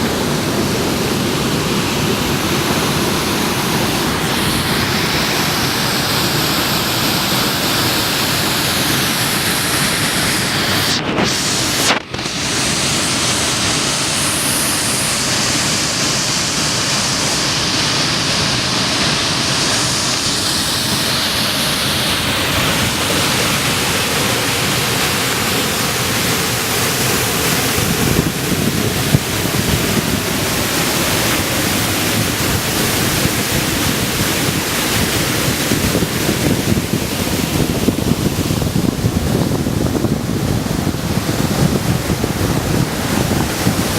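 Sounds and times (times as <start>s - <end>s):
waterfall roaring: 0.0s - 43.9s.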